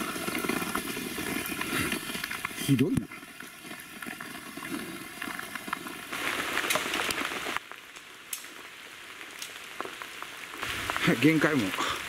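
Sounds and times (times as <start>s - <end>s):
rain on a tent: 0.0s - 12.0s.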